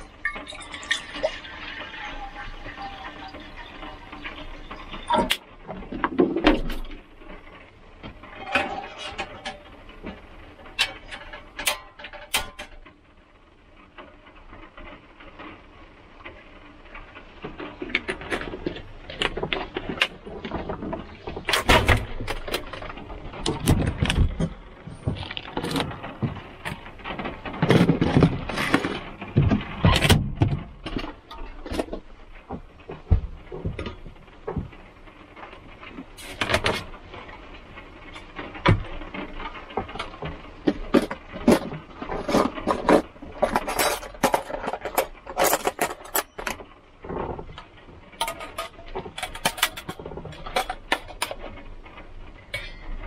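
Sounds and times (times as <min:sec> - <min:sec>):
small objects clattering: 0:00.0 - 0:13.1, 0:16.2 - 0:53.0.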